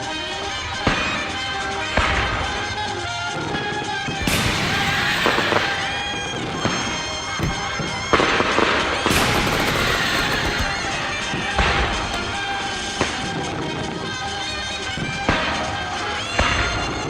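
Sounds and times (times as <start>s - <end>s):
fireworks bangs: 0.0s - 17.0s
fireworks crackling: 0.0s - 17.0s
music soundtrack: 0.0s - 17.0s.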